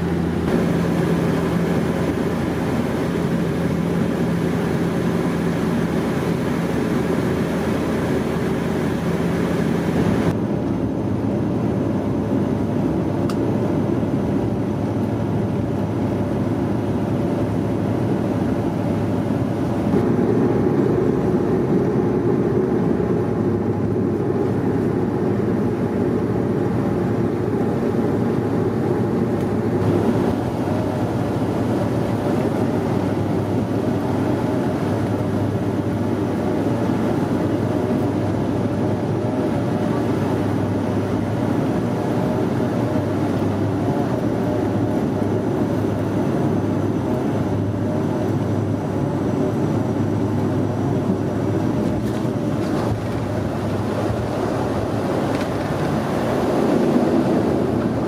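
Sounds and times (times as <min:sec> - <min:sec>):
aircraft cabin engine drone: 0:00.0 - 0:58.0.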